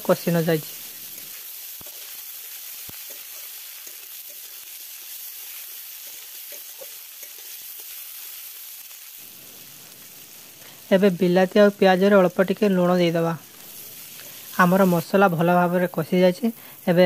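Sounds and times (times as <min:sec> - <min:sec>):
onion and tomato sizzling in oil: 0:00.0 - 0:17.0.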